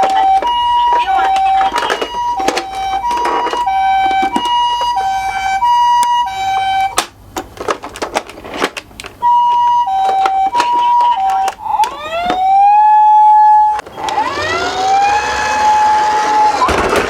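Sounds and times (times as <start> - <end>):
toy two-tone siren: 0.0 - 7.0, 9.2 - 16.7.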